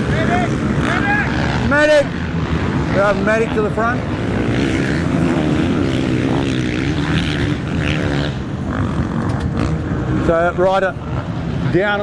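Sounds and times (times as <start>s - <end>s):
motocross bike engines racing: 0.0s - 12.0s.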